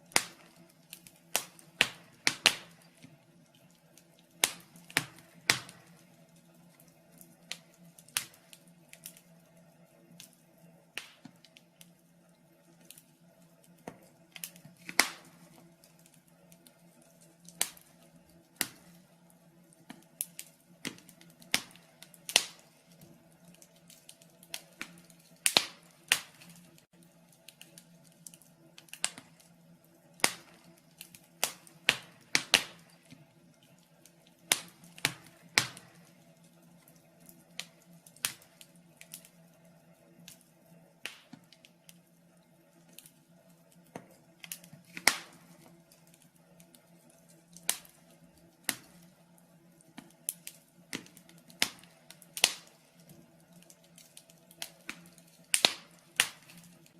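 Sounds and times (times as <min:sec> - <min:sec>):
faint steady hum: 0:00.0 - 0:56.9
fireplace fire crackling: 0:00.0 - 0:56.9.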